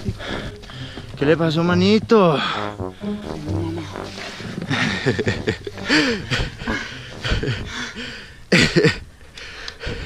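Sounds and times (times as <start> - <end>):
man panting hard: 0.0 - 1.1, 2.4 - 8.8, 9.4 - 10.0.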